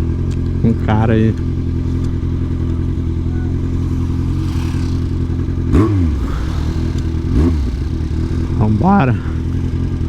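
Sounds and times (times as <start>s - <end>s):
motorcycle engine rumbling and revving: 0.0s - 10.0s.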